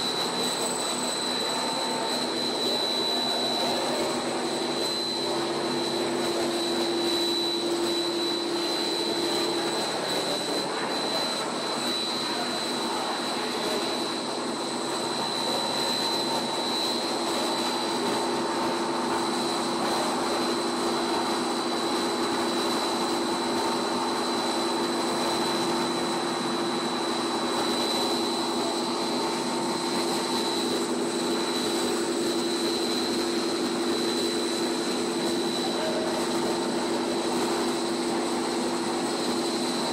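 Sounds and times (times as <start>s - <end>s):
high machine whine: 0.0s - 39.9s.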